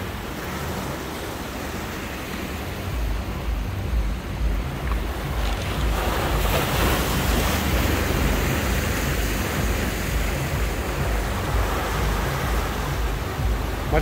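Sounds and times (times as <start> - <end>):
surf washing onto shore: 0.0 - 14.0
wind buffeting microphone: 2.5 - 14.0.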